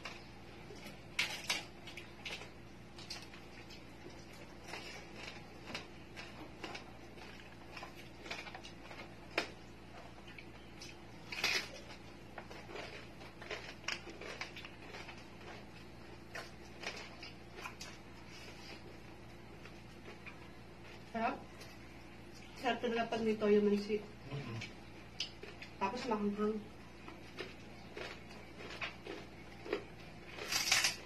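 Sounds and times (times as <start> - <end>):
chewing crispy skin: 0.0 - 22.6, 24.3 - 26.2, 26.8 - 31.0.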